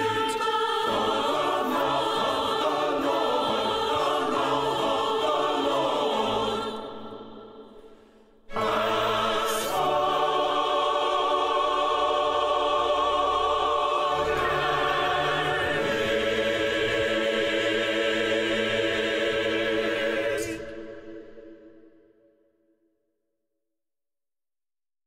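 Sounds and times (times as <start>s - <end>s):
mixed-voice choir singing: 0.0s - 22.2s.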